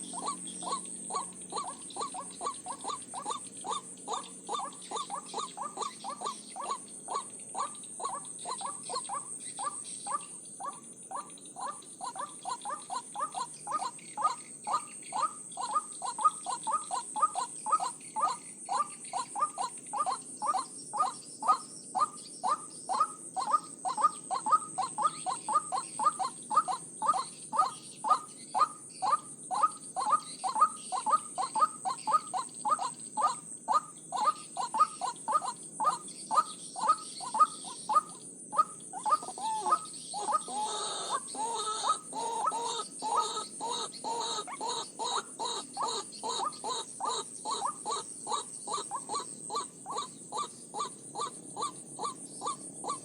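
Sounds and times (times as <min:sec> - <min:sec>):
waterhen harsh calls: 0:00.0 - 0:53.0.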